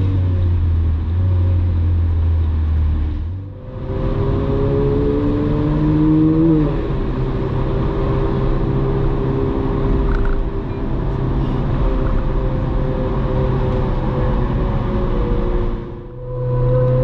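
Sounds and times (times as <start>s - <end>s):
car engine revving: 0.0s - 17.0s
road noise: 0.0s - 17.0s.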